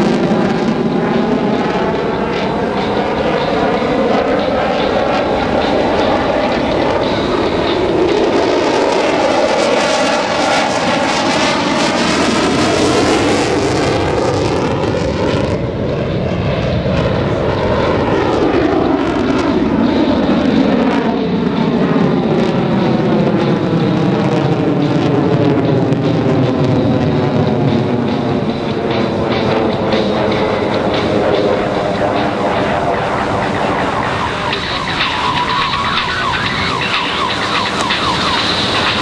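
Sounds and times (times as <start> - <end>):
jet engine roar overhead: 0.0 - 39.0.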